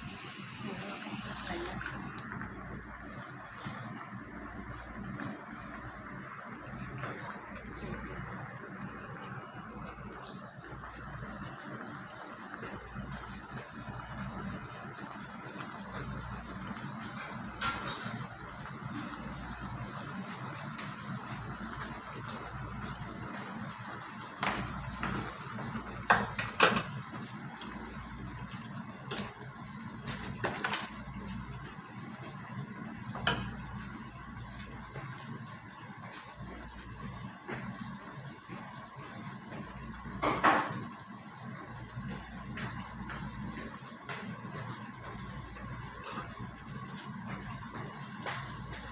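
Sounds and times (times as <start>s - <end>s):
sauce bubbling and hissing: 0.0s - 48.9s.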